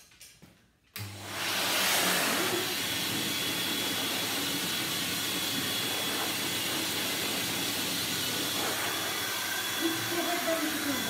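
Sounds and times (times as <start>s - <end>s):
pet grooming dryer blowing air: 1.0s - 11.0s.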